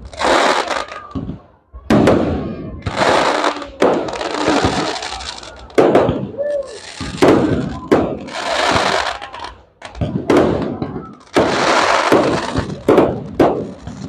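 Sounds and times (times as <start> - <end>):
fireworks bangs: 0.0 - 14.0
fireworks crackling: 0.0 - 14.0.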